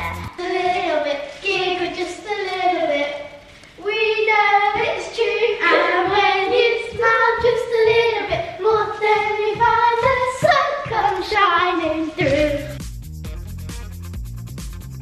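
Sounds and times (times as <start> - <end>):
child singing: 0.0 - 12.8.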